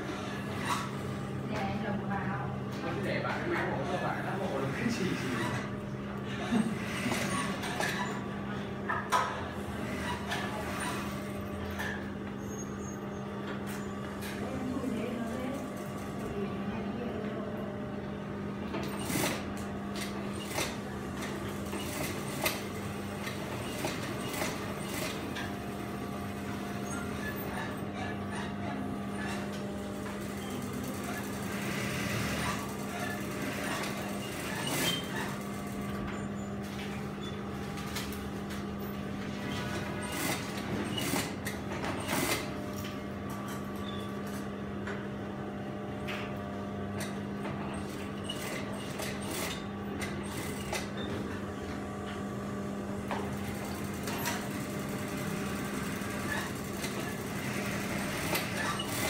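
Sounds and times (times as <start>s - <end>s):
sewing machine motor hum: 3.0s - 59.0s.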